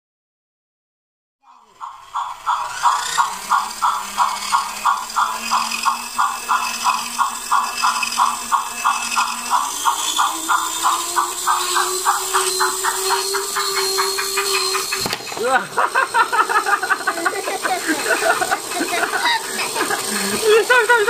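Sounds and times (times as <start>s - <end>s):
steam locomotive chuffing: 1.5s - 21.0s
electric motor whine: 1.6s - 21.0s.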